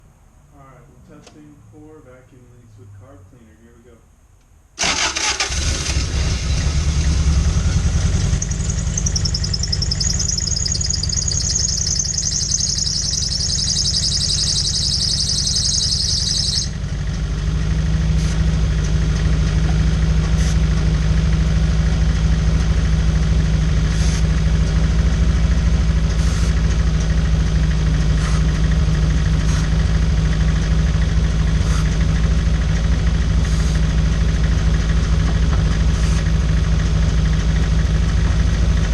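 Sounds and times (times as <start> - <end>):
car engine idling: 4.8 - 38.9.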